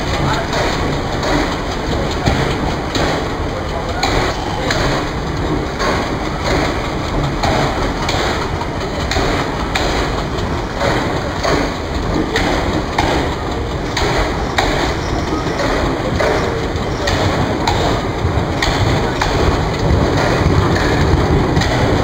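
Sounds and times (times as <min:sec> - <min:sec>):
train rumbling: 0:00.0 - 0:22.0
train wheels clattering: 0:00.0 - 0:22.0.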